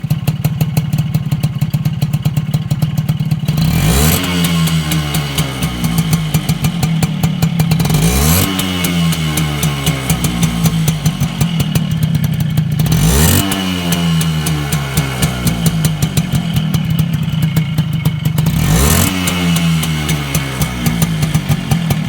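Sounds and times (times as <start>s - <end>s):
whistling two-stroke motorcycle engine: 0.0s - 22.0s.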